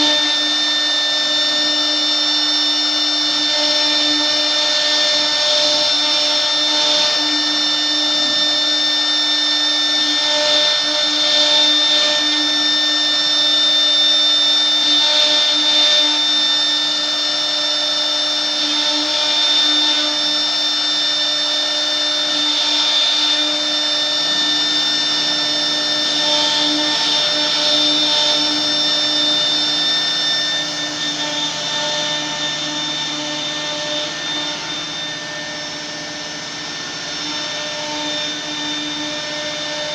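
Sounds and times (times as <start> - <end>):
router cutting noise: 0.0 - 39.9
router spindle whine: 0.0 - 39.9.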